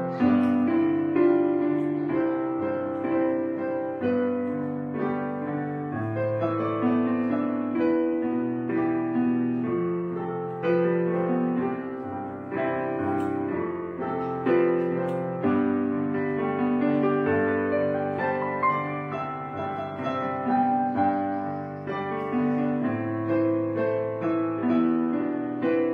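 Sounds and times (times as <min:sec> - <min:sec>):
slow piano music: 0:00.0 - 0:25.9.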